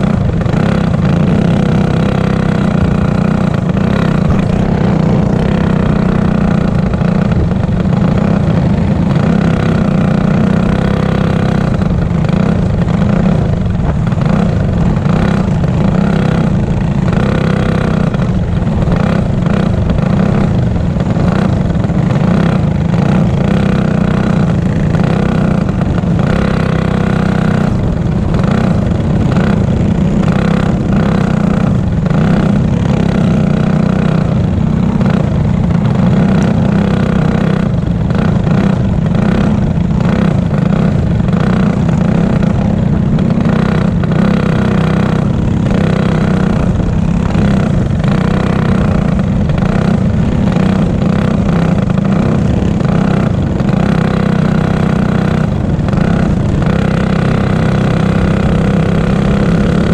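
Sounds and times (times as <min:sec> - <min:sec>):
kart engine at high revs: 0:00.0 - 0:59.9
wind noise on microphone: 0:00.0 - 0:59.9.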